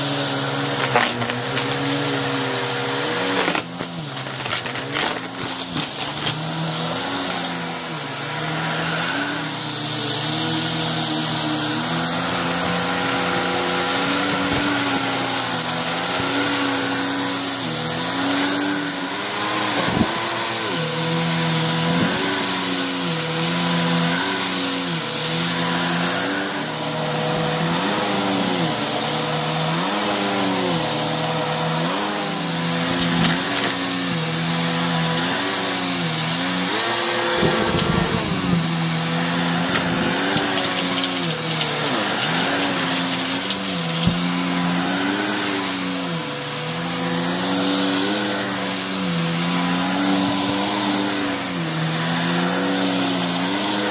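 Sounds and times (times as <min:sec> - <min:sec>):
vacuum cleaner running on carpet: 0:00.0 - 0:53.9.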